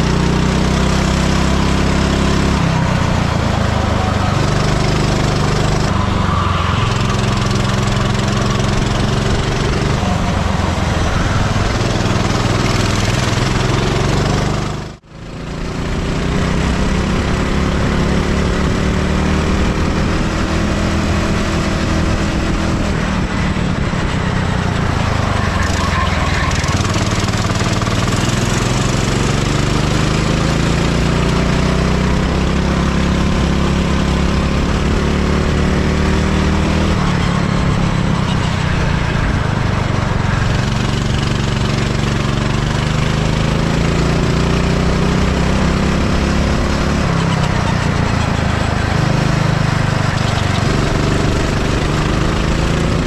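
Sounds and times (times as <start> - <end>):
go-kart engine: 0.0 - 53.0.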